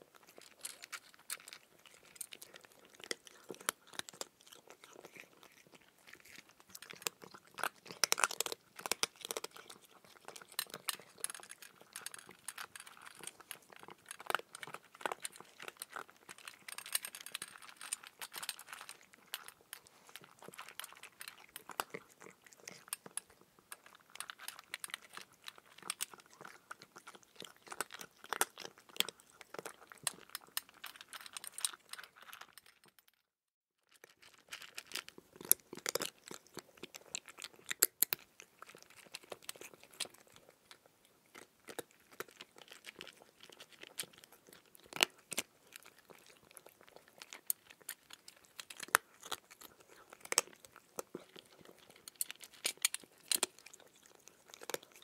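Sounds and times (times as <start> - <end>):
cucumber crunching while chewed: 0.0 - 32.9, 34.2 - 55.0.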